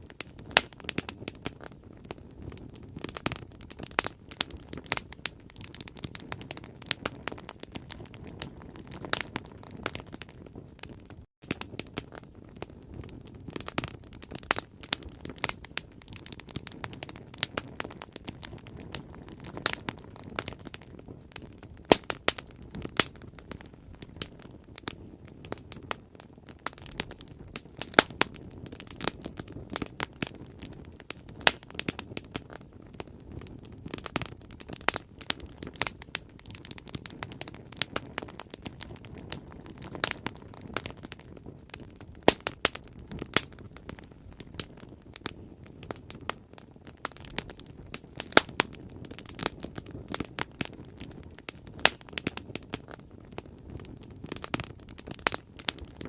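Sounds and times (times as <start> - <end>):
bonfire crackling and popping: 0.0 - 56.0
low rush of flames: 0.0 - 56.0.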